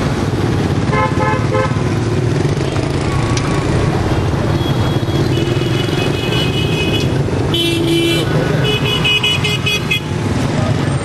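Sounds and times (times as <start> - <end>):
motorbike engines rumbling: 0.0 - 11.0.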